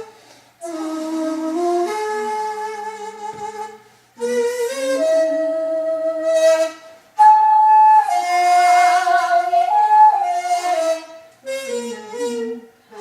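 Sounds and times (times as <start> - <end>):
bamboo flute slow melody: 0.0 - 13.0.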